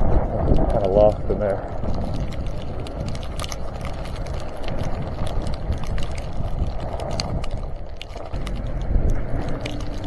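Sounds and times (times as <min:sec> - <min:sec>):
bicycle tires rolling over icy snow: 0:00.0 - 0:10.0
sharp clicks and crackles: 0:00.0 - 0:10.0
wind rumble on microphone: 0:00.0 - 0:10.0.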